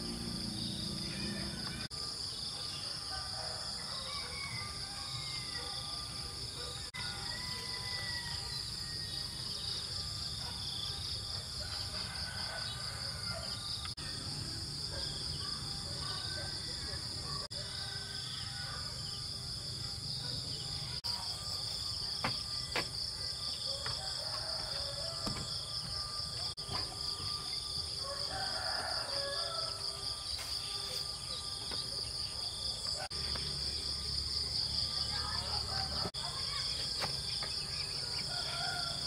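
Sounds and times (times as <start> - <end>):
shrill insect chorus: 0.0 - 39.0.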